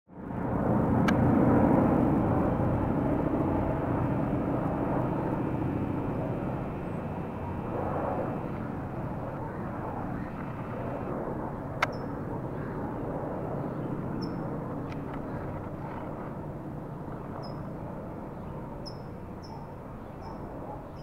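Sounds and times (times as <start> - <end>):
propeller planes droning overhead: 0.1 - 21.0.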